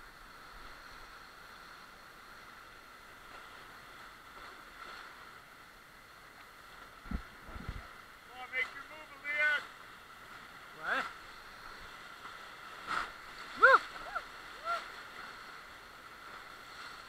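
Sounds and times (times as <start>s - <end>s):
river water rushing through rapids: 0.0s - 17.0s.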